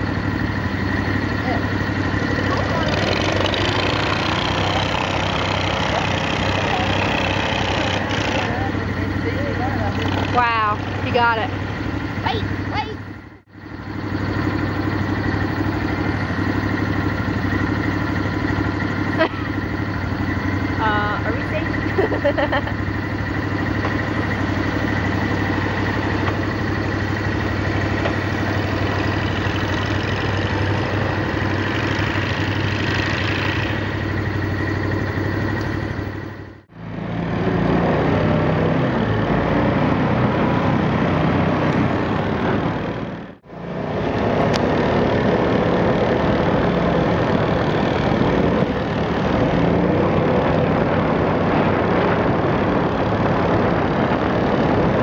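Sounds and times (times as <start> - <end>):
amphibious vehicle engine running: 0.0 - 55.0
four-wheeler engine in deep snow: 0.0 - 55.0
high whine: 0.0 - 55.0.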